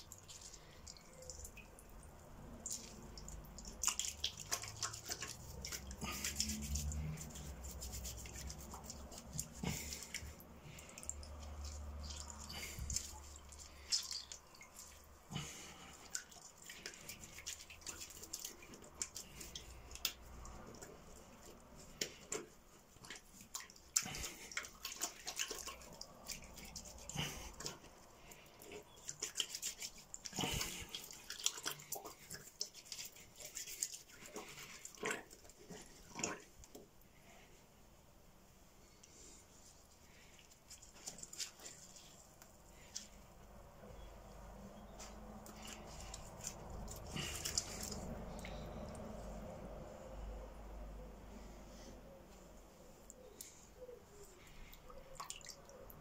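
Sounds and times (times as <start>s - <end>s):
wet hands rubbing together: 0.0s - 36.8s, 38.9s - 49.9s
water splashing and dripping: 0.0s - 37.1s, 40.0s - 43.3s, 44.3s - 49.8s, 54.2s - 56.0s.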